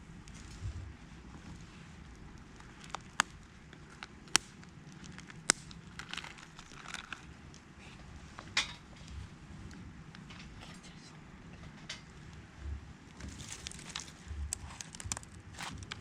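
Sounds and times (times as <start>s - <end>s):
campfire crackling and popping: 0.1s - 10.6s, 11.6s - 16.0s.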